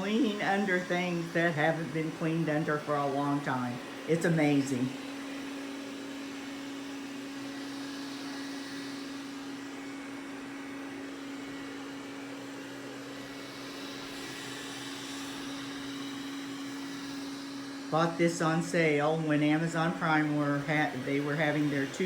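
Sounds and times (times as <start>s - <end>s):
robot vacuum running: 0.0s - 22.0s.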